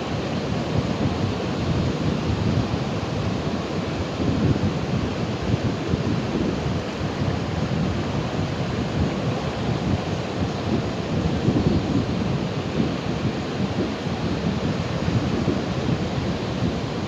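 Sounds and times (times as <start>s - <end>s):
ocean waves washing on shore: 0.0s - 17.0s.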